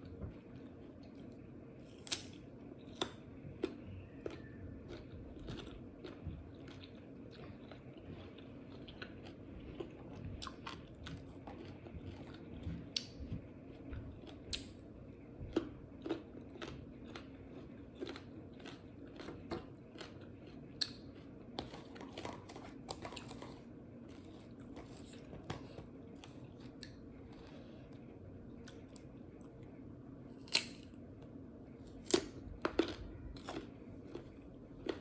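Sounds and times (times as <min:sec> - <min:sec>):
chewing crisp food: 0:00.0 - 0:29.8, 0:31.9 - 0:35.0.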